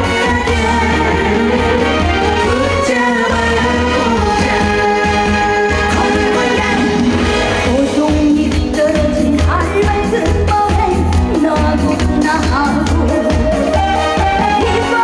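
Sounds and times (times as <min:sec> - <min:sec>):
band backing track with bass beat: 0:00.0 - 0:15.0
woman singing: 0:00.0 - 0:15.0.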